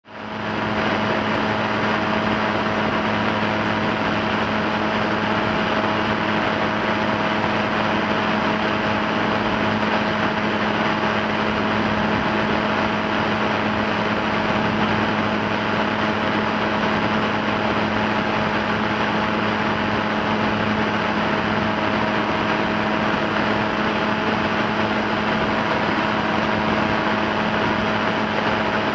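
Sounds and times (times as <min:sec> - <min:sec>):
small aircraft engine drone: 0:00.1 - 0:28.9.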